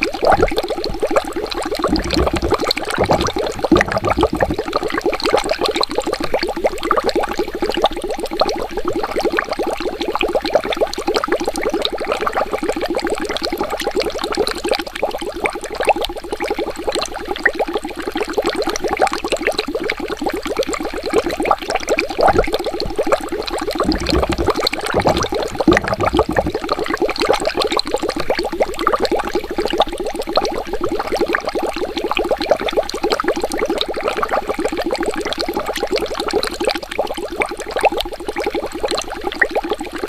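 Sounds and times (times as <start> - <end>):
water bubbling and gurgling: 0.0 - 40.0.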